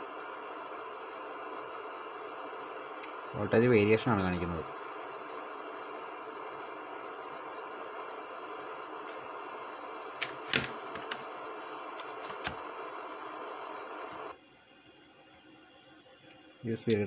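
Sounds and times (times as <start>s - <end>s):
steady hiss with faint hum: 0.0s - 17.0s.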